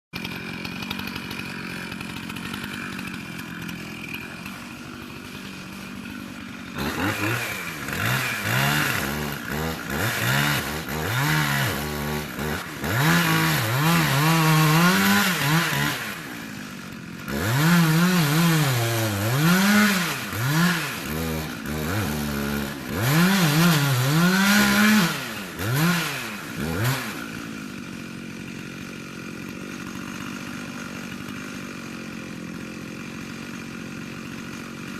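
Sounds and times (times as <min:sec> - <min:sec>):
chainsaw idling and revving: 0:00.2 - 0:34.9.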